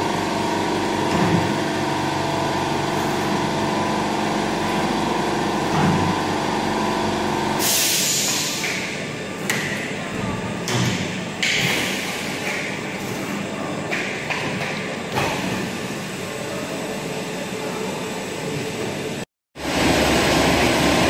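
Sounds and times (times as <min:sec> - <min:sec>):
bottling machinery running: 0:00.0 - 0:21.0.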